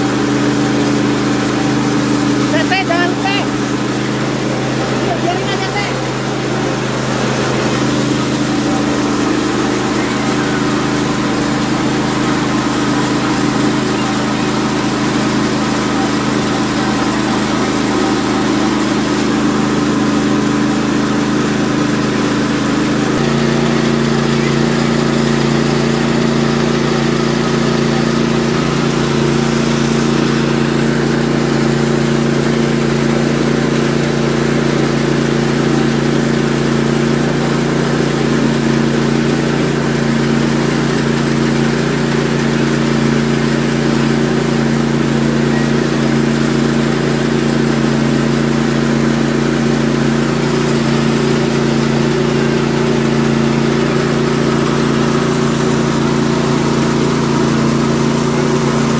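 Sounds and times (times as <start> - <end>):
rice milling machine humming: 0.0 - 58.9.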